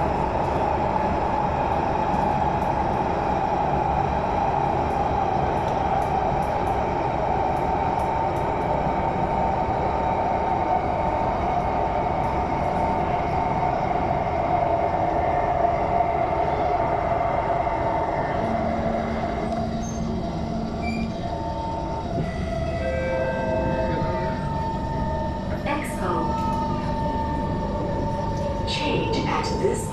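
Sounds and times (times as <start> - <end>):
train wheels on rails: 0.0 - 15.2, 18.2 - 29.9.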